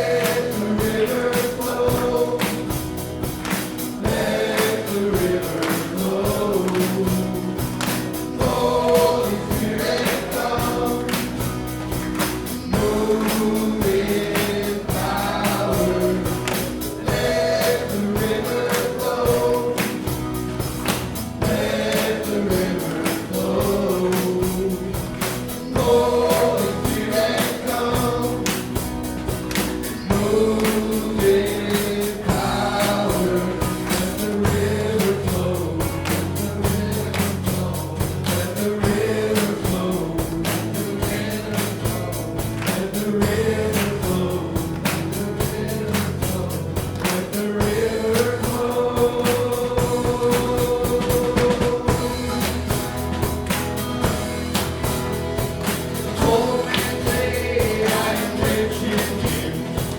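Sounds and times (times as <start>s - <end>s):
group of voices singing: 0.0s - 59.9s
worship band playing: 0.0s - 59.9s.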